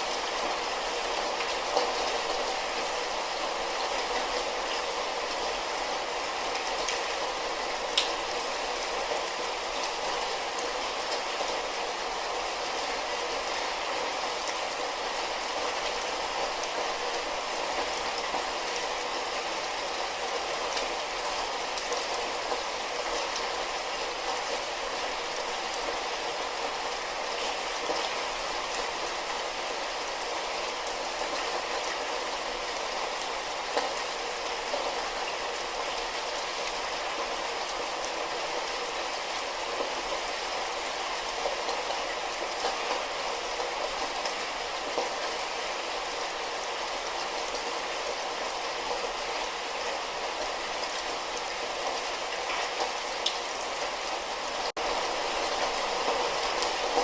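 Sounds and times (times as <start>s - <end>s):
light rain: 0.0s - 57.0s.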